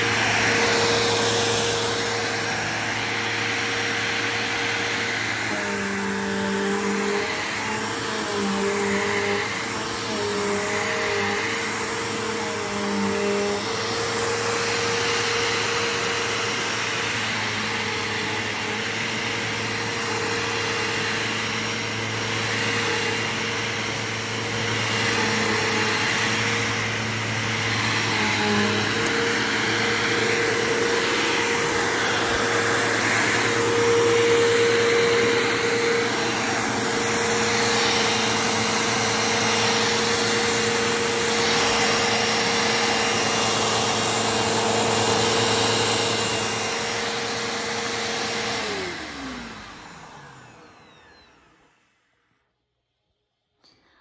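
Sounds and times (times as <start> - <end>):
vacuum cleaner running: 0.0 - 52.2
vacuum motor winding down: 0.0 - 52.2.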